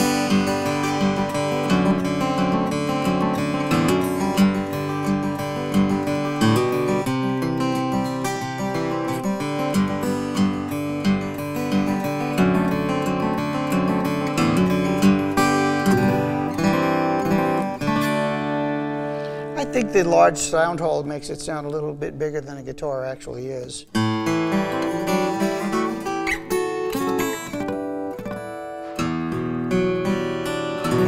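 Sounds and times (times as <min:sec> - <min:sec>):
acoustic guitar picking: 0:00.0 - 0:31.0.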